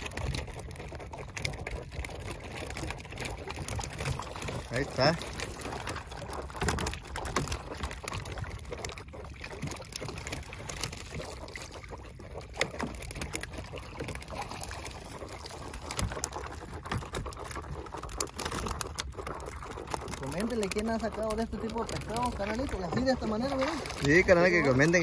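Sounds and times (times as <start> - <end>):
water splashing off net: 0.0 - 25.0.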